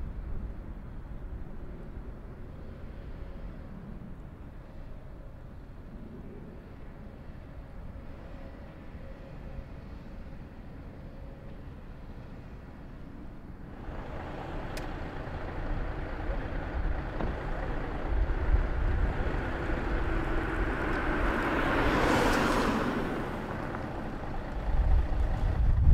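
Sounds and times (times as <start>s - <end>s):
engine rumble: 0.0s - 25.9s.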